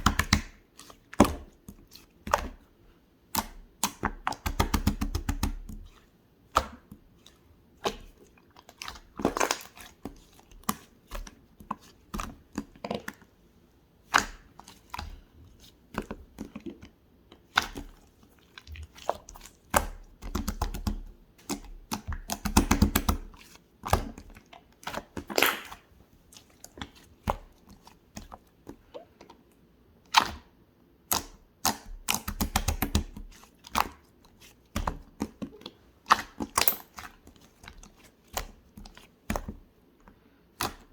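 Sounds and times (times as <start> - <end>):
slime crackling squishes: 3.4 - 13.3, 14.0 - 29.3, 30.1 - 39.5.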